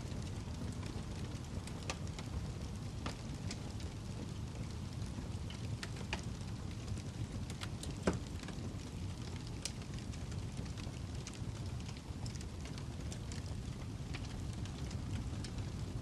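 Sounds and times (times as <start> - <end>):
burning log crackling and popping: 0.0 - 16.0
low rumble of flames: 0.0 - 16.0.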